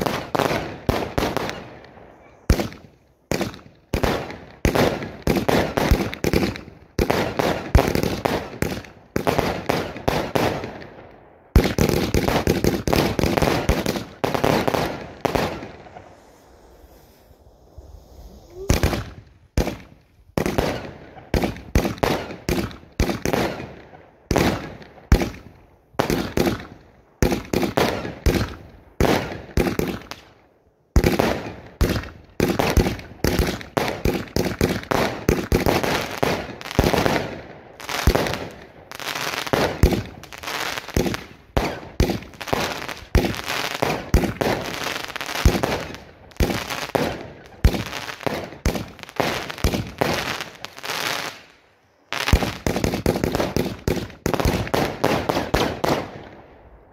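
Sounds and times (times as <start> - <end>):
fireworks bangs with crackle: 0.0 - 30.3, 31.0 - 56.4.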